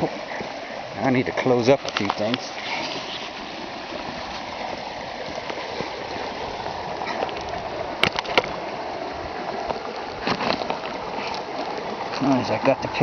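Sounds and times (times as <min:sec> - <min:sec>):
flood water rushing: 0:00.0 - 0:13.0.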